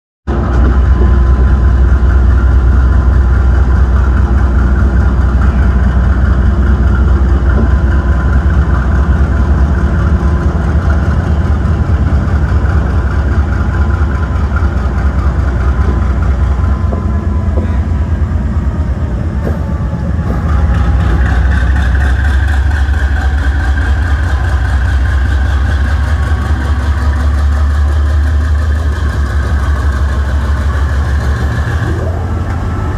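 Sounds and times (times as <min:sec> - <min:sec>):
diesel locomotive engine drone: 0:00.2 - 0:32.9.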